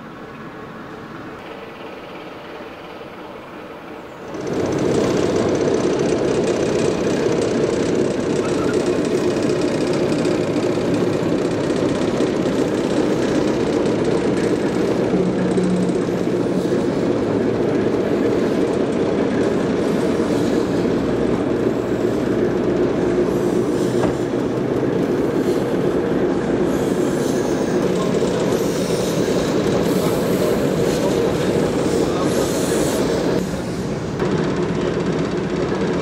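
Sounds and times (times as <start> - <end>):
diesel locomotive idling: 0.0 - 36.0.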